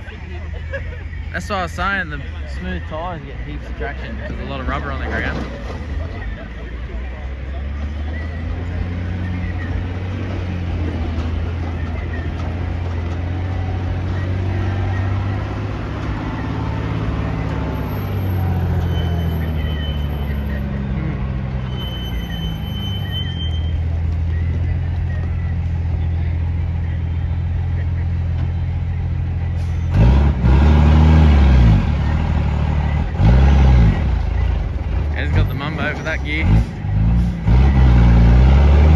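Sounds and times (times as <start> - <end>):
truck engine droning under load: 0.0 - 38.9.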